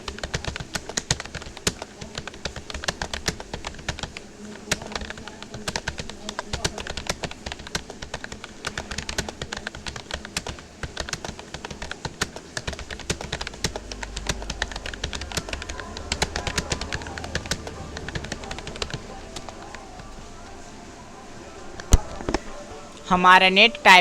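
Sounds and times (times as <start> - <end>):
fast typing on a keyboard: 0.0 - 21.2.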